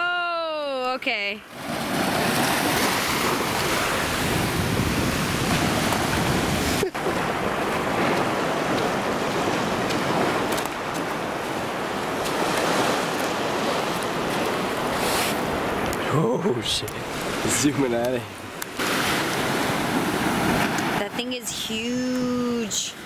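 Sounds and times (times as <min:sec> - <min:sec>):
ocean surf on beach: 0:00.6 - 0:23.0.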